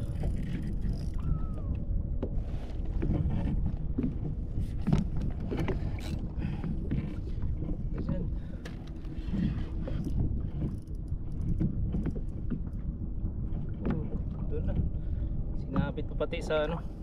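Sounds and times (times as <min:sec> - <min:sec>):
water moving around kayak: 0:00.0 - 0:17.0
wind on microphone: 0:00.0 - 0:17.0.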